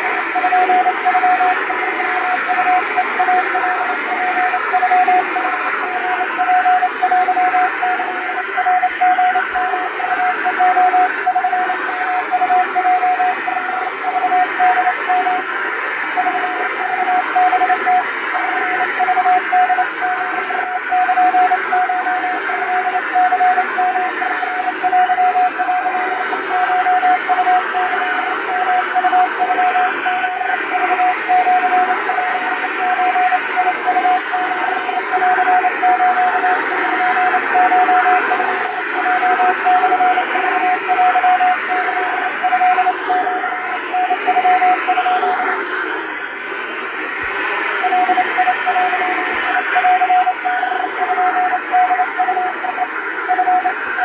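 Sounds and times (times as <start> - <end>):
morse code tone: 0.0 - 15.5, 16.1 - 54.0.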